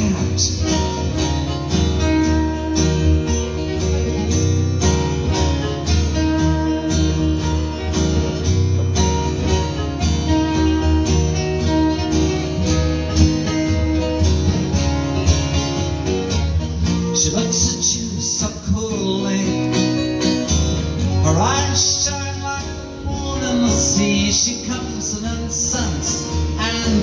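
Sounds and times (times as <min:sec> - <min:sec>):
acoustic guitars playing: 0:00.0 - 0:27.0.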